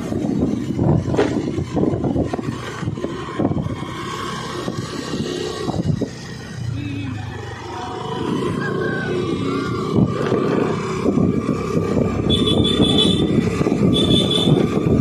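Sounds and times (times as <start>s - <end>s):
motorcycle engine rumble: 0.0s - 15.0s.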